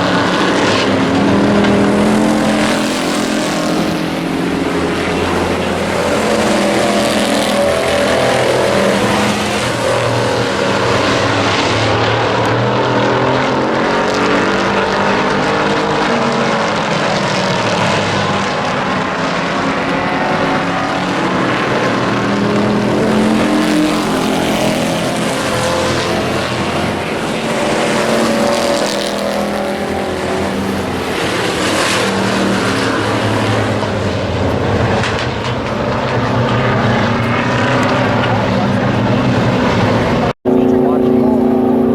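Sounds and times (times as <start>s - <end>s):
race truck engines: 0.0s - 41.9s.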